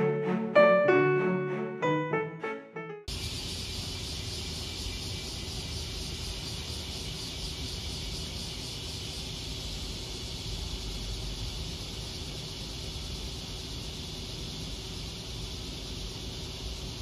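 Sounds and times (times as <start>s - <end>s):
cicadas buzzing: 3.1s - 17.0s.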